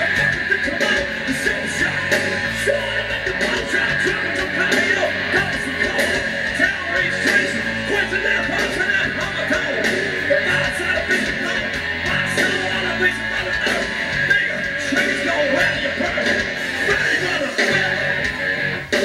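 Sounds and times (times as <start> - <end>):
electric guitar: 0.0 - 19.0
steady drum beat: 0.0 - 19.0.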